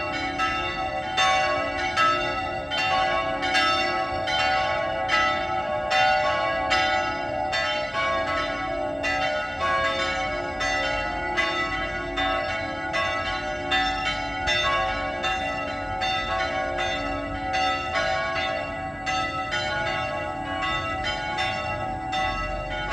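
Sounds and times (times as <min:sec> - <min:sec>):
church bells pealing: 0:00.0 - 0:22.9.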